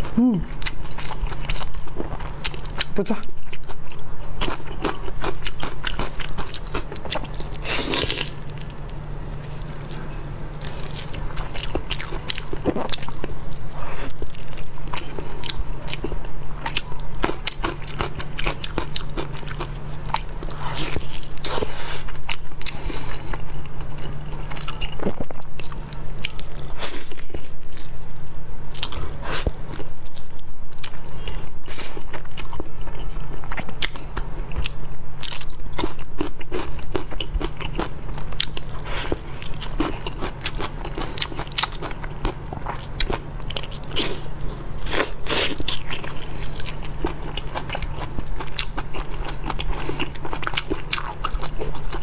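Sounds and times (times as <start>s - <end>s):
person chewing meat: 0.0s - 52.0s.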